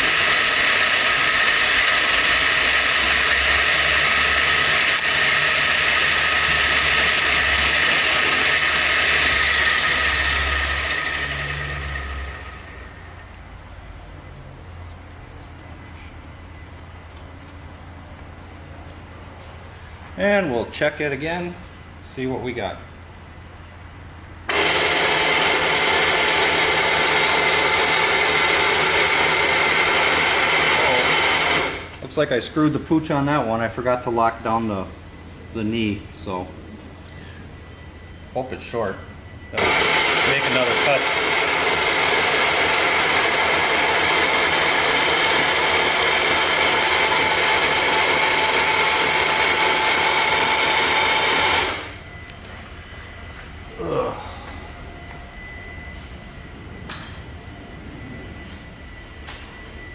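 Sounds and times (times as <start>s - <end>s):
milling machine whining: 0.0s - 13.6s, 24.4s - 59.9s.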